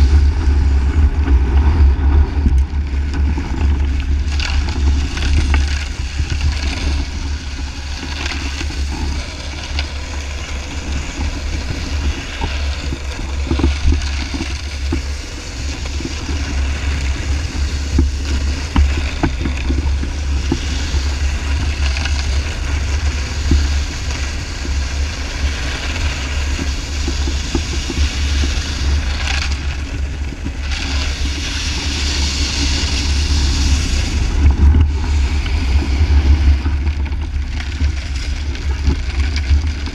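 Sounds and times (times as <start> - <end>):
snowboard scraping across ice: 0.0 - 39.9
wind buffeting microphone: 0.0 - 39.9.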